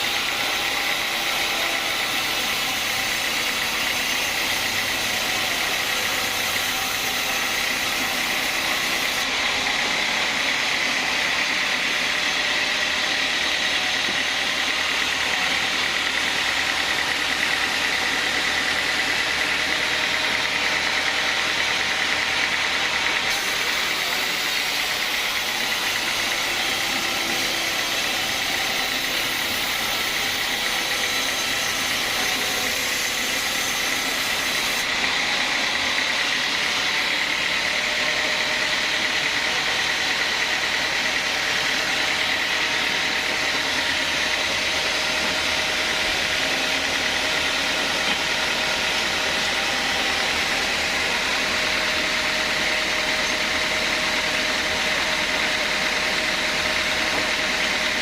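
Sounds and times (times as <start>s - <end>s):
band saw whining: 0.0s - 58.0s.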